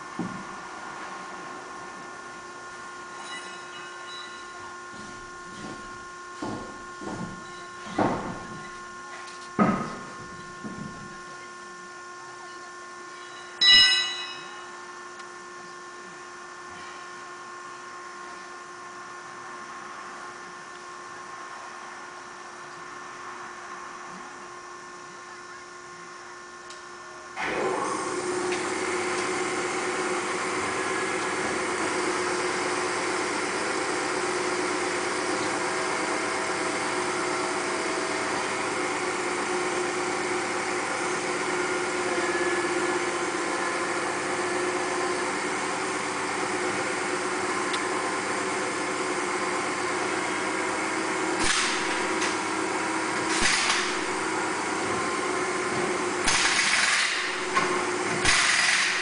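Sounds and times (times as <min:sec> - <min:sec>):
mechanical running hum: 0:00.0 - 0:59.0.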